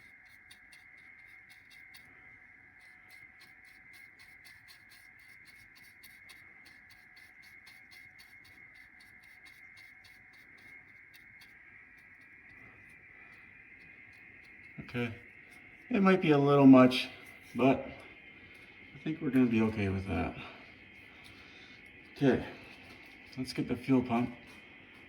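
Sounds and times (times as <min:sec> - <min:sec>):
scratchy strokes of sealant applicator: 0:00.0 - 0:16.2, 0:20.7 - 0:25.0
faint steady high whine: 0:00.0 - 0:25.0.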